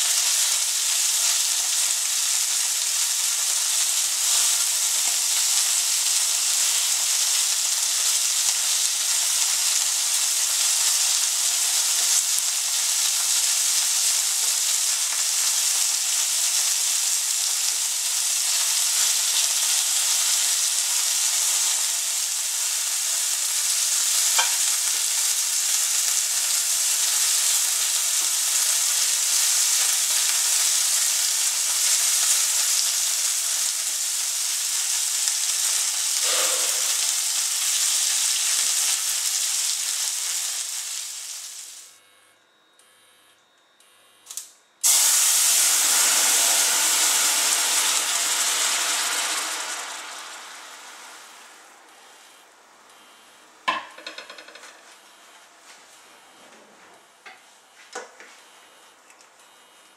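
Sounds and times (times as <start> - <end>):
chicken sizzling in hot oil: 0.0 - 41.9, 44.8 - 52.2.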